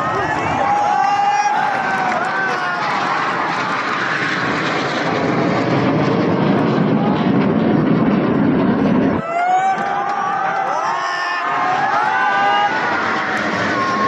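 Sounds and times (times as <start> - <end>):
jet aircraft flying past: 0.0 - 14.0.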